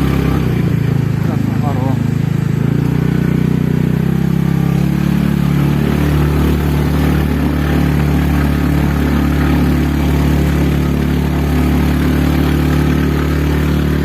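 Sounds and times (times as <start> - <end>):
scooter engine running: 0.0 - 14.0.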